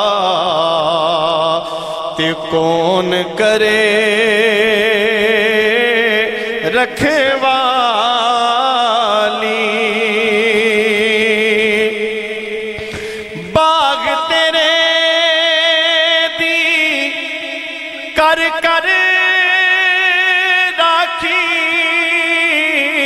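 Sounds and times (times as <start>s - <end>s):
man singing long held notes: 0.0s - 23.0s.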